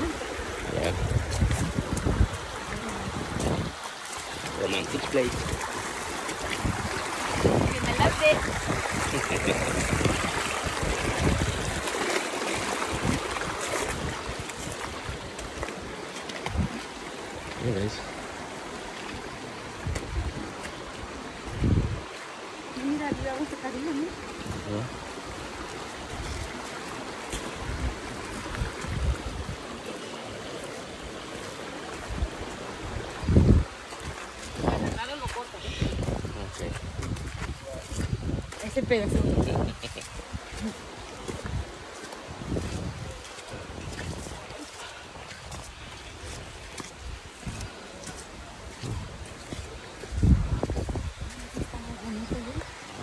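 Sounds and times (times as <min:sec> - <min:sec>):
creek rushing over rocks: 0:00.0 - 0:53.0.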